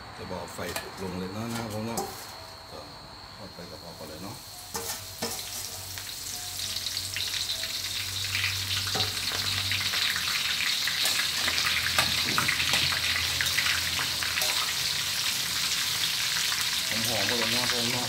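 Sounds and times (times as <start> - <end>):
leaves sizzling in hot oil: 0.6 - 2.4, 3.6 - 18.0.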